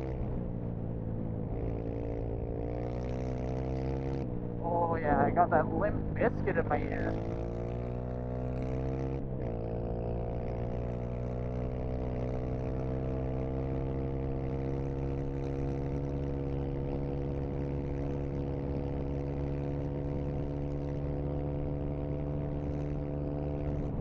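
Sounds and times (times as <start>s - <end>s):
dirt bike engine droning: 0.0s - 24.0s.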